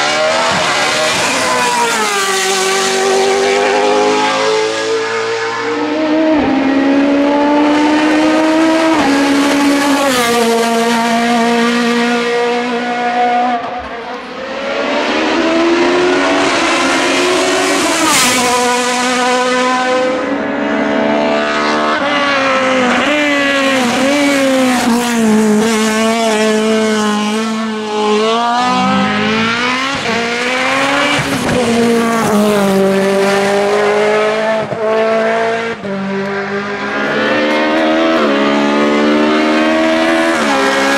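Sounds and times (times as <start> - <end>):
race car engines at full throttle: 0.0 - 40.9.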